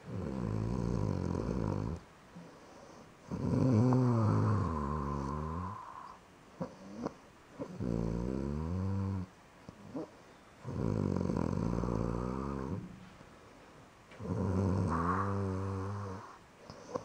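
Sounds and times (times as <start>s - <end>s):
person snoring: 0.1s - 2.0s, 3.3s - 9.3s, 9.9s - 12.9s, 14.2s - 17.0s.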